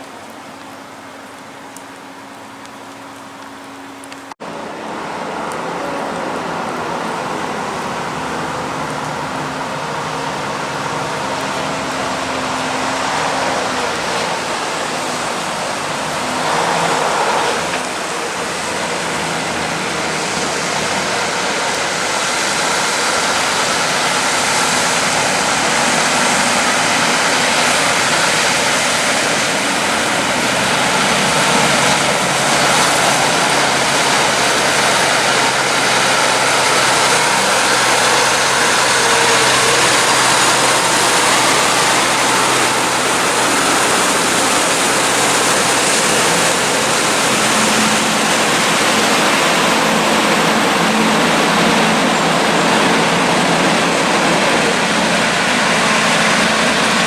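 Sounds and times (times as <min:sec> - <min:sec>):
low engine hum: 0:00.0 - 0:57.0
traffic rushing hiss: 0:00.0 - 0:57.0.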